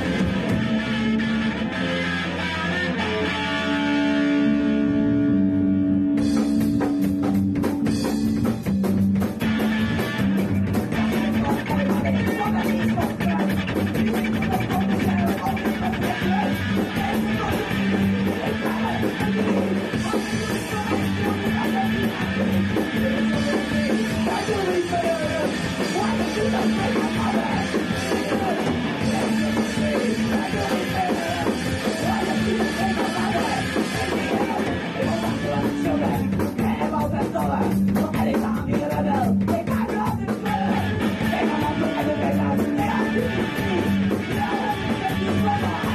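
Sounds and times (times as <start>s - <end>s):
drums: 0.0s - 45.9s
electric guitar: 0.0s - 45.9s.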